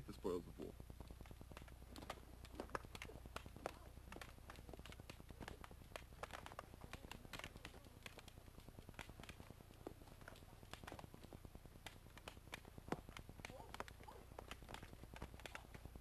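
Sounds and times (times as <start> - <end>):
steady low hum: 0.0 - 16.0
wooden sticks clacking: 1.0 - 16.0.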